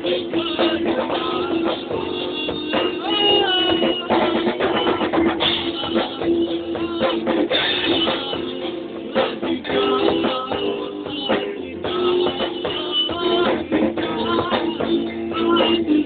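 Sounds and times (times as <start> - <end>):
drum kit beat: 0.0 - 16.0
rock band playing: 0.0 - 16.0
sliding melody line: 0.0 - 16.0.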